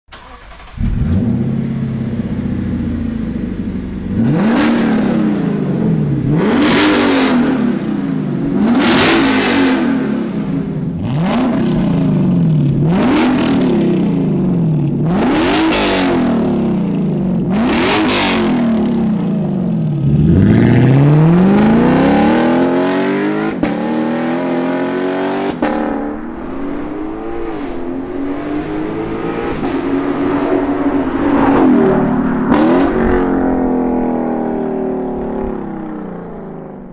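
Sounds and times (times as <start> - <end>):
car accelerating hard: 0.1 - 36.1
car engine revving: 0.1 - 36.8.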